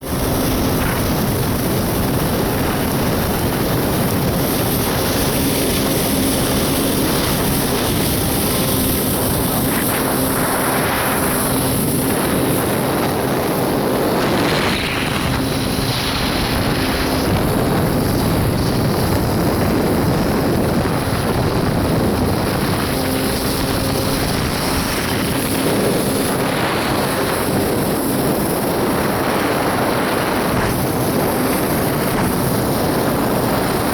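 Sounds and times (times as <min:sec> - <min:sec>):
jet ski engine running: 0:00.0 - 0:33.9
water rushing: 0:00.0 - 0:33.9.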